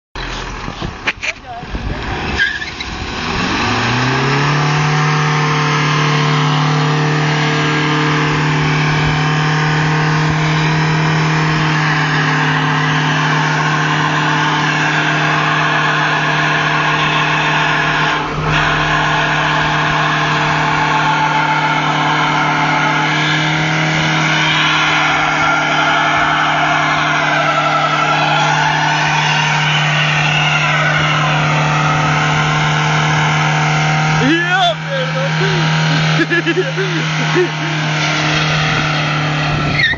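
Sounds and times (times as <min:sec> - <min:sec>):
diesel engine revving high: 0:00.2 - 0:39.9.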